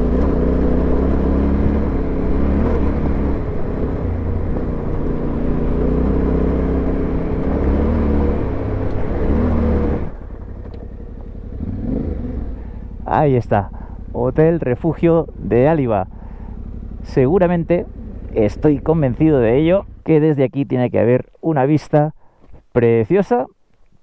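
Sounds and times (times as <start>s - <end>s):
motorcycle engine revving: 0.0s - 20.2s.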